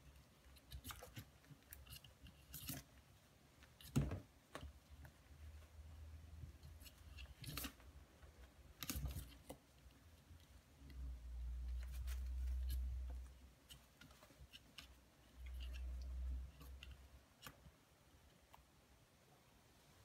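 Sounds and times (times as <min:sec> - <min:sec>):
puppy claws scratching pen: 0:00.0 - 0:05.3, 0:06.4 - 0:17.8.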